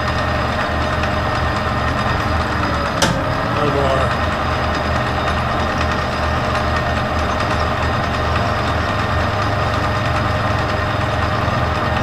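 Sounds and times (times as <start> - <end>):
metal lathe running: 0.0 - 12.0.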